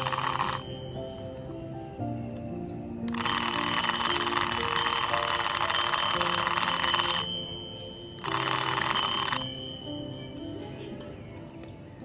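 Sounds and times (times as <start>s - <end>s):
alarm clock bells ringing: 0.0s - 1.5s, 3.1s - 11.5s.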